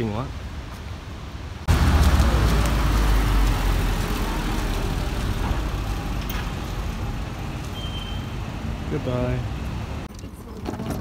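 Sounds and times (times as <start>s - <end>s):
hiss of street noise: 0.0s - 10.1s
motor vehicle rumble: 1.2s - 11.0s.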